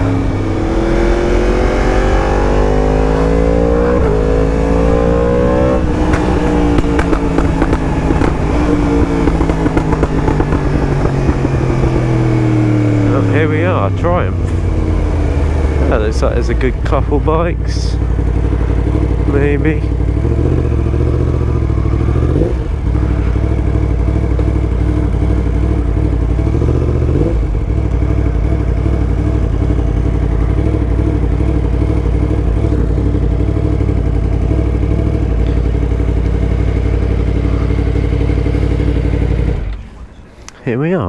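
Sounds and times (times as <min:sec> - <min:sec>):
motorcycle engine idling: 0:00.0 - 0:40.6.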